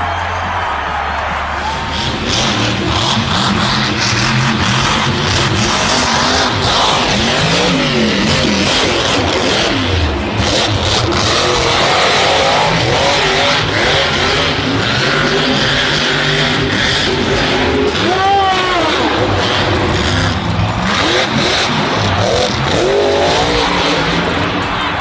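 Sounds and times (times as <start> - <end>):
loud noisy background: 0.0 - 25.0
vehicle engines revving: 0.0 - 25.0.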